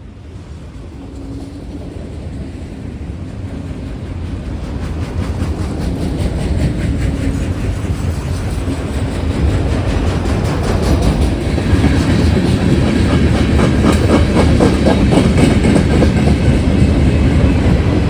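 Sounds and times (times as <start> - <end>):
train wheels ticking on rails: 0.1 - 18.0.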